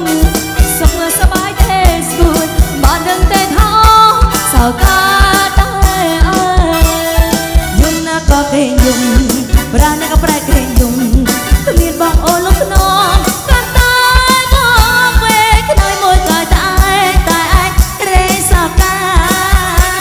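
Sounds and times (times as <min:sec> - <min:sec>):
live band with electric guitar: 0:00.0 - 0:20.0
woman singing: 0:00.0 - 0:20.0.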